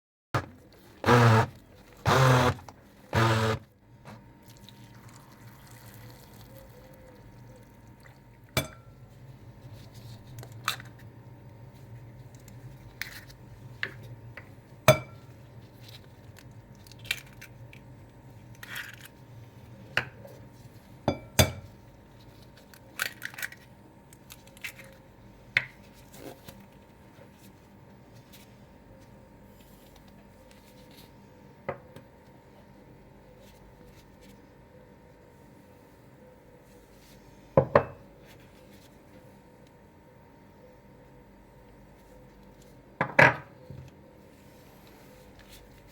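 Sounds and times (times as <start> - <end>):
low steady hum: 0.4 - 45.9.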